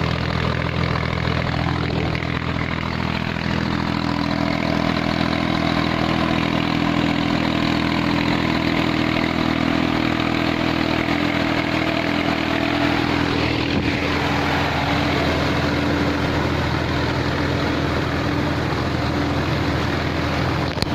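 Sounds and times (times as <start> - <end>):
tractor engine hum: 0.0 - 20.9
blower fan air rush: 1.0 - 20.9.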